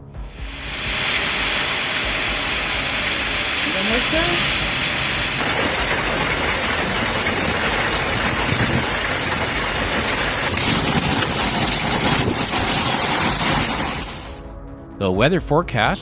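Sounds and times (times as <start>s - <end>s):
heavy rain pouring: 0.2s - 14.4s.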